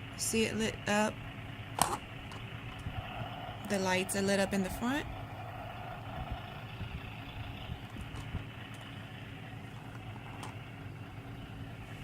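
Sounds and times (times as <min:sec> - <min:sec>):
toy speaker engine idling effect: 0:00.0 - 0:12.0.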